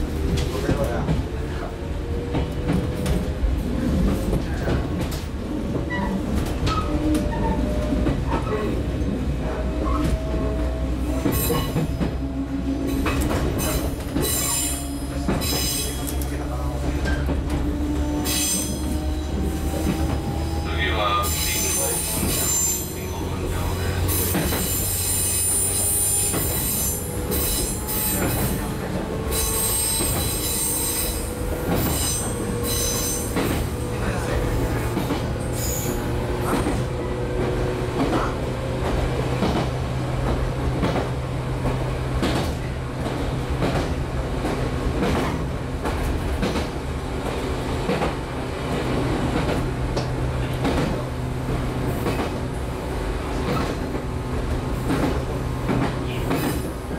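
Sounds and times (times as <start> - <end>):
train motor hum and rumble: 0.0 - 56.9.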